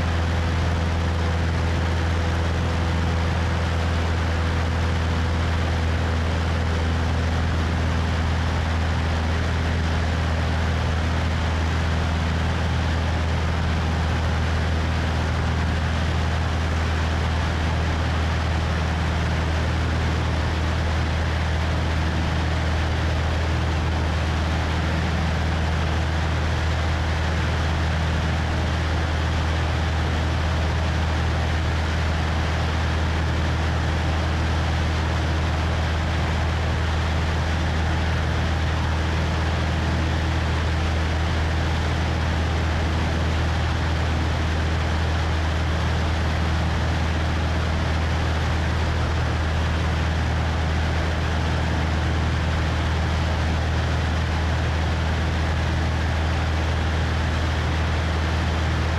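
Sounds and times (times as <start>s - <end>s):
propeller plane engine droning: 0.0s - 58.9s.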